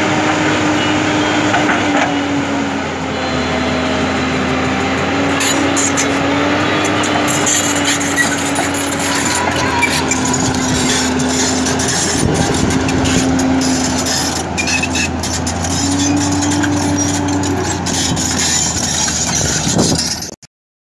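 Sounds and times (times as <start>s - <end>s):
excavator diesel engine: 0.0s - 20.4s
hydraulic whine: 0.0s - 20.4s.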